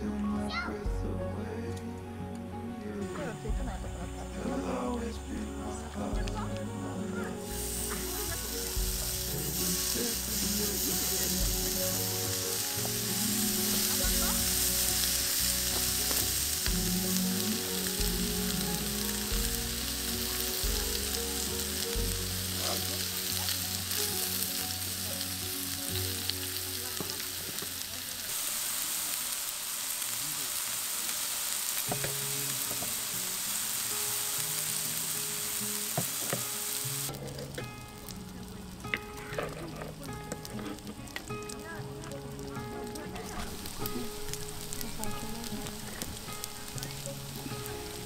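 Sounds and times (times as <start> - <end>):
meat and garlic sizzling in a pan: 3.0 - 48.0.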